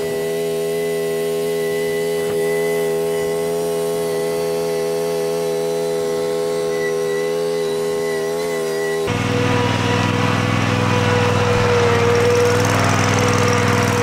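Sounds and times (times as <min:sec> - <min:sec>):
ride-on mower engine buzzing: 0:00.0 - 0:14.0.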